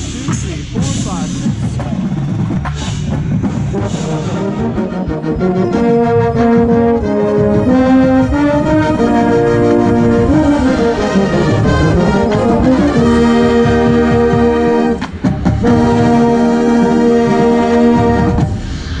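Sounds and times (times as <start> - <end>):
brass hornline playing chords: 2.2 - 18.8.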